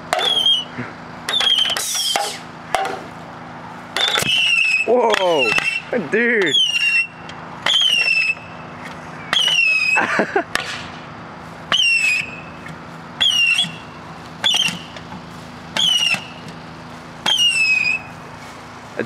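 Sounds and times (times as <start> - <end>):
fireworks whistling: 0.1 - 2.5, 4.0 - 10.9, 11.7 - 18.3.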